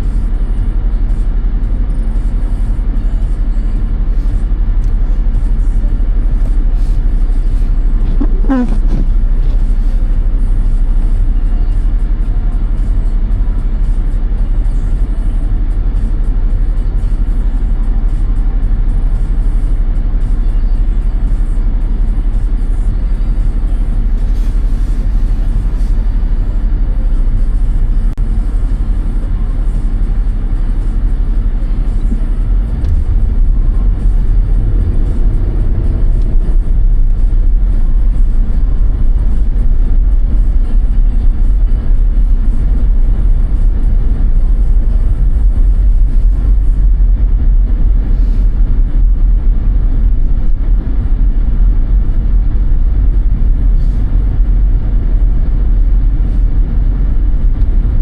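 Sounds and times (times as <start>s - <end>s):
car driving on snowy road: 0.0s - 58.0s.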